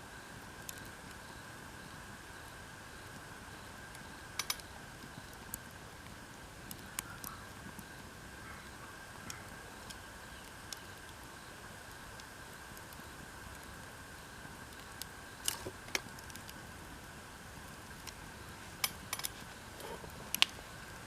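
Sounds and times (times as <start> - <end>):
faint steady hum: 0.0 - 21.0
wood fire crackling: 0.0 - 21.0.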